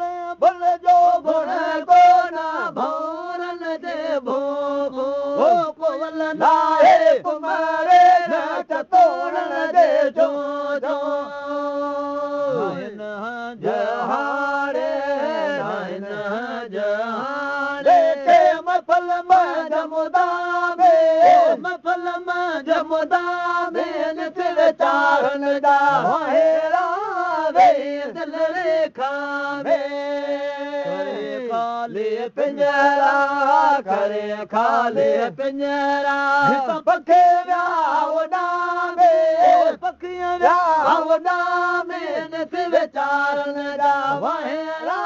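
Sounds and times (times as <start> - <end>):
man chanting devotional song: 0.0 - 45.0.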